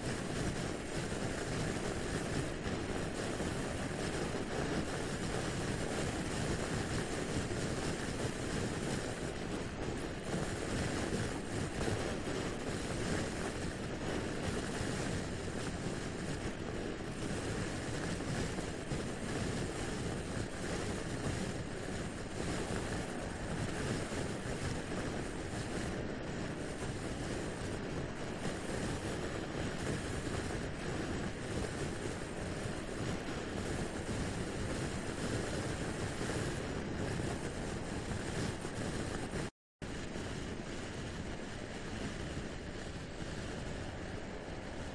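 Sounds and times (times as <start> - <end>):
wind rush on microphone: 0.0 - 44.9.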